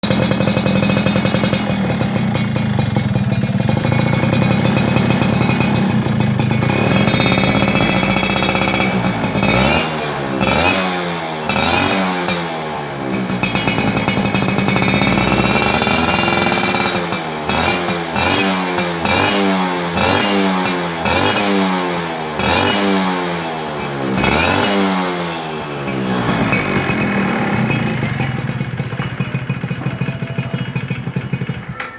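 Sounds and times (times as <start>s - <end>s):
two-stroke motorcycle revving: 0.0s - 31.9s.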